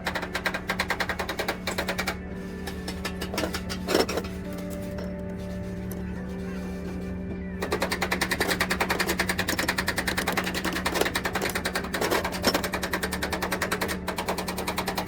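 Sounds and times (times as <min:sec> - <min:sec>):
rapid mechanical ticking: 0:00.0 - 0:04.7, 0:07.6 - 0:15.0.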